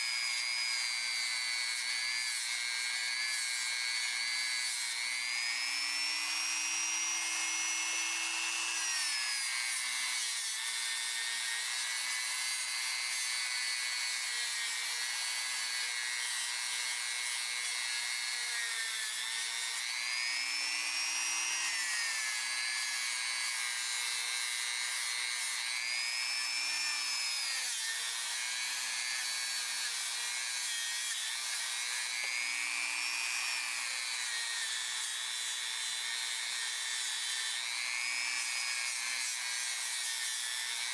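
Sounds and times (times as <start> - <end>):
power tool motor whine: 0.0 - 40.9.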